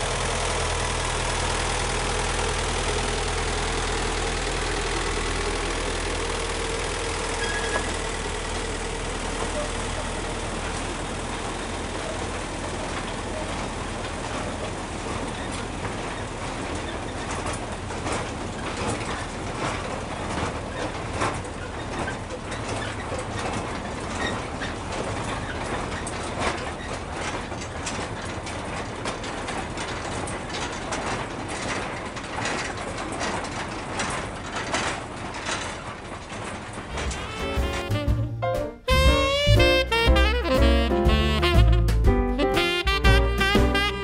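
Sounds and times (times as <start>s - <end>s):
railway wagons rumbling past: 0.0s - 44.0s
wheels and couplings clacking: 0.0s - 44.0s.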